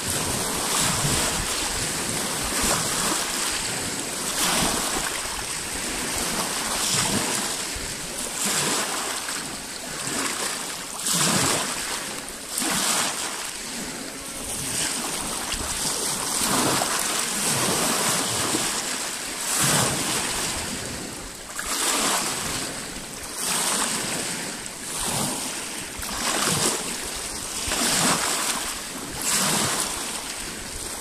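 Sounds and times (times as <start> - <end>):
waves lapping on rocky shore: 0.0 - 31.0.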